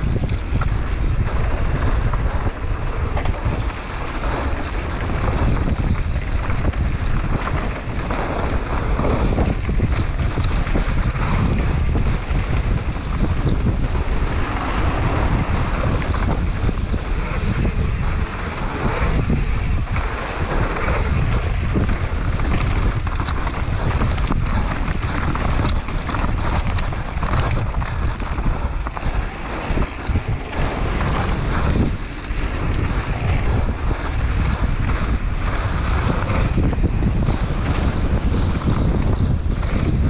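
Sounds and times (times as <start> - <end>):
bike knocks and rattles: 0.0 - 40.0
bike tyres on dirt and roots: 0.0 - 40.0
wind rushing over microphone: 0.0 - 40.0.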